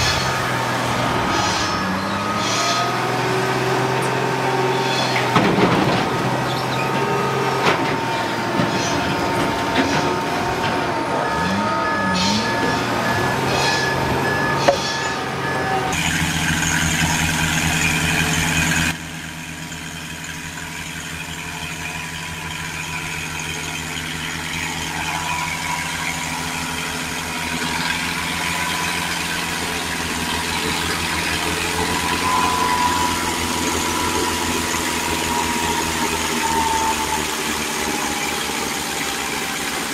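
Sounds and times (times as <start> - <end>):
heavy log-handling machinery: 0.0 - 39.9
tractor engines under load: 0.0 - 39.9.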